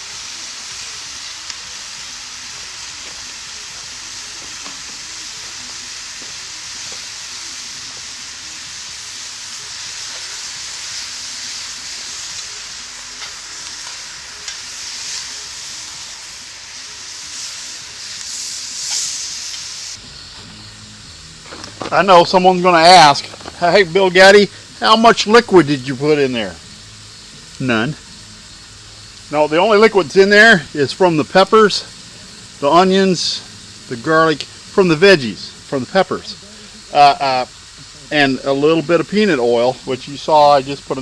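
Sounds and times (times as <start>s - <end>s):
food sizzling in oil: 0.0s - 41.0s.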